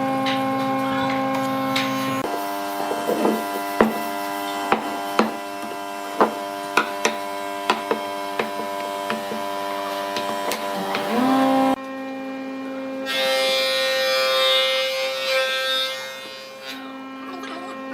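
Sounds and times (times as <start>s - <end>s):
wood lathe humming: 0.0s - 17.9s.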